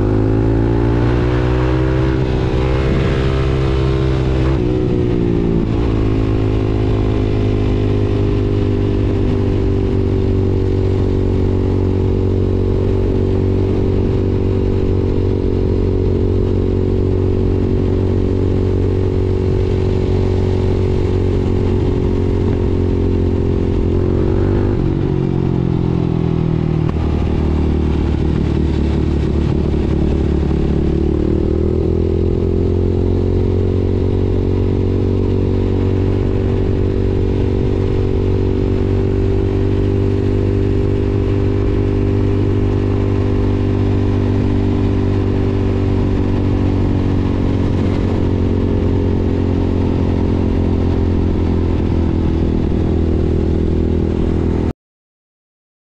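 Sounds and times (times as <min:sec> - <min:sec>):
quad bike engine cruising: 0:00.0 - 0:54.7.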